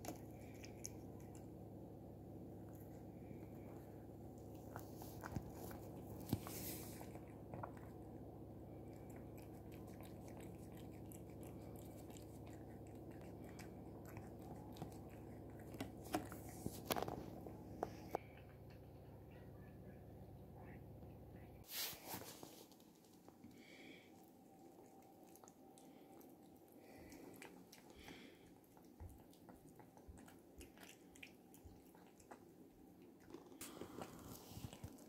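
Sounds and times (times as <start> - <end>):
cat licking and chewing: 0.0 - 18.8, 22.3 - 35.0.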